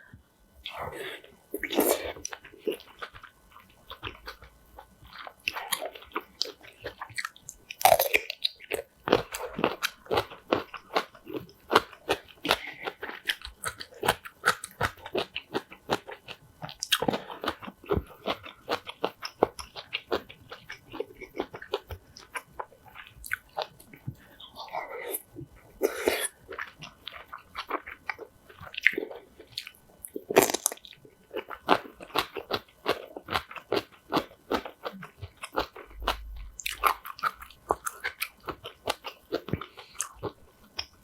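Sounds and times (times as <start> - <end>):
crunching and chewing food: 0.6 - 41.0.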